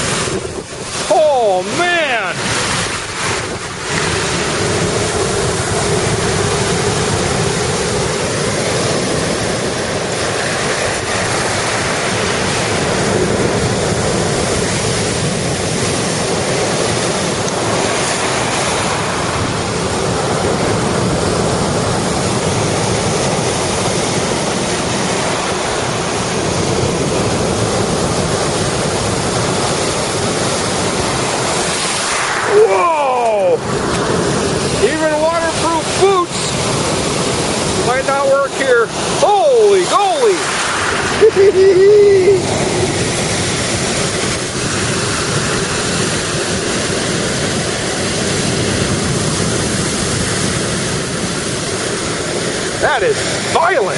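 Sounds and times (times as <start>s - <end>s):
waves breaking on rocky shore: 0.0s - 53.9s
wind on microphone: 0.0s - 53.9s.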